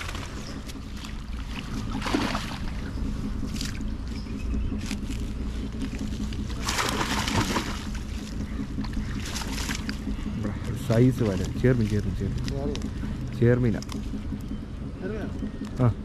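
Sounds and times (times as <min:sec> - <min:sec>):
water splashing and sloshing: 0:00.0 - 0:14.8
steady low hum: 0:00.0 - 0:16.0.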